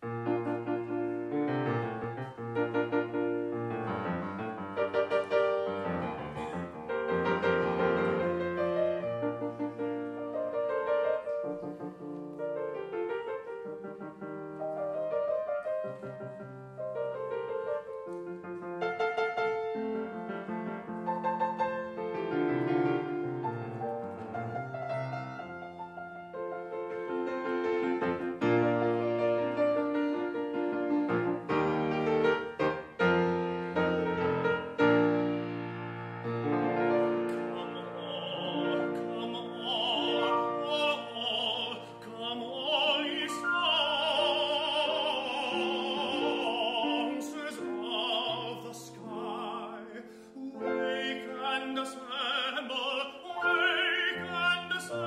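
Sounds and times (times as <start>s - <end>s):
grand piano playing baroque music: 0.0s - 55.0s.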